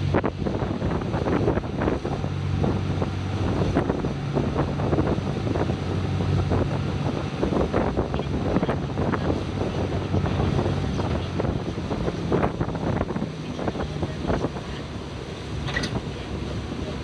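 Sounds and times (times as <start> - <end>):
boat engine droning: 0.0 - 17.0
wind buffeting microphone: 0.0 - 17.0.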